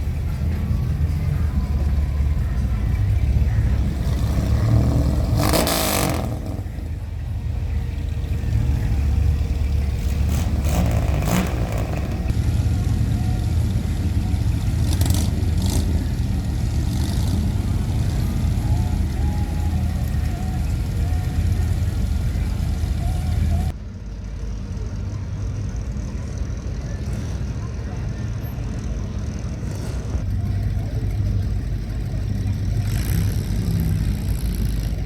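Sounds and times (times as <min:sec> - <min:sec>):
car engines driving past: 0:00.0 - 0:35.0.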